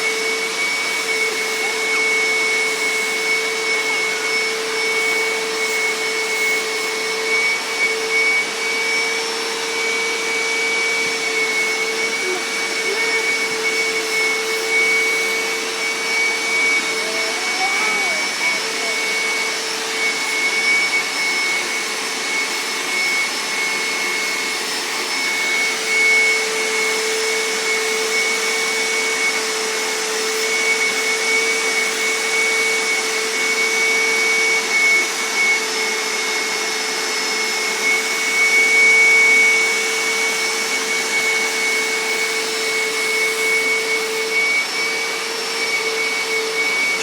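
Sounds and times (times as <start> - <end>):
steam cleaner motor whine: 0.0 - 47.0.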